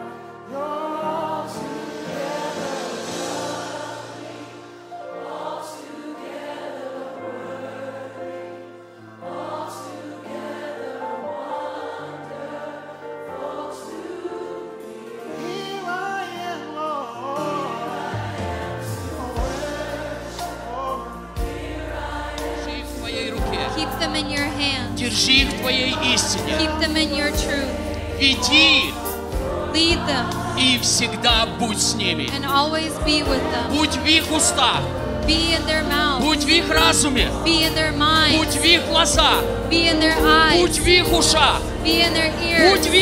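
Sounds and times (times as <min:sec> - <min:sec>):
congregation singing worship song: 0:00.0 - 0:43.0
keyboard accompaniment: 0:00.0 - 0:43.0.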